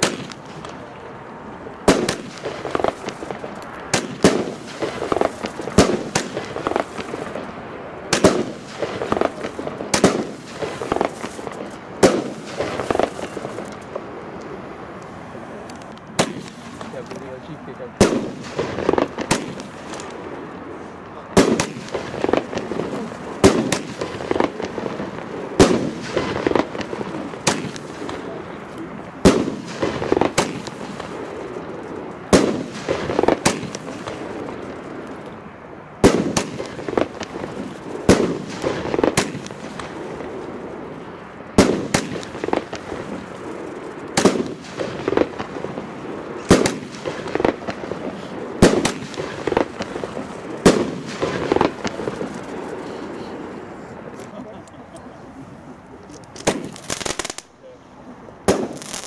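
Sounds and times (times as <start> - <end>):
firework bangs: 0.0 - 54.6, 56.0 - 57.6, 58.4 - 59.0.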